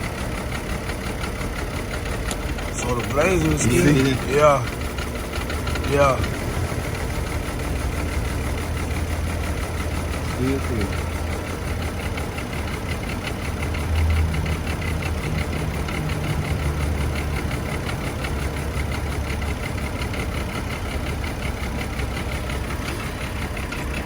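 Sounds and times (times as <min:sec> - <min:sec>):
engine idling with misfire: 0:00.0 - 0:24.0.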